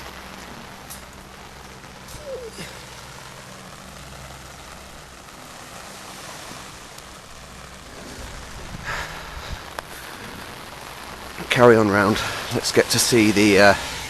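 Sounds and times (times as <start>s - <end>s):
low steady hum: 0.0s - 14.0s
rain falling: 0.0s - 14.0s
rustle: 0.0s - 14.0s.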